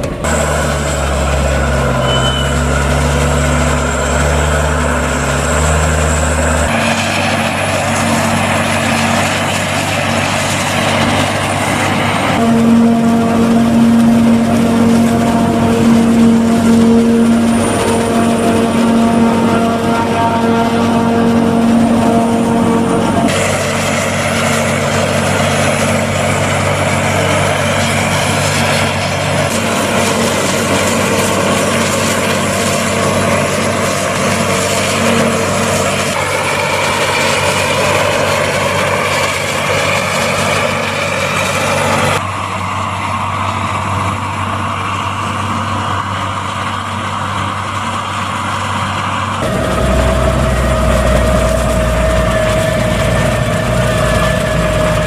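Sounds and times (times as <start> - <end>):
forage harvester chopping corn: 0.0 - 20.9, 23.2 - 42.2, 47.6 - 55.0
deep tractor engine: 0.0 - 55.0.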